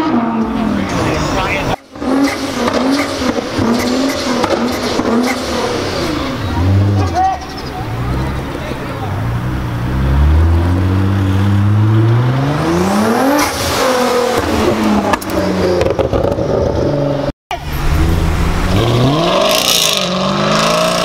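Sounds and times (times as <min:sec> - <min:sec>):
car engine accelerating: 0:00.0 - 0:21.0
performance car revving: 0:00.0 - 0:21.0.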